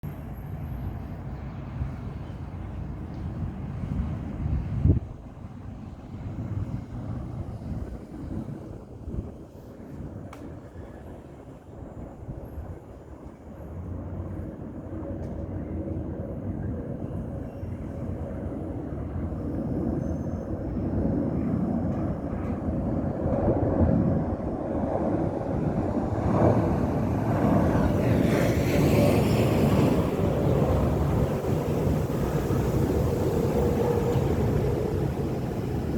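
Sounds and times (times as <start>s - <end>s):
jet engine rumble: 0.1s - 35.9s
jet engine hiss and whine: 0.2s - 35.9s.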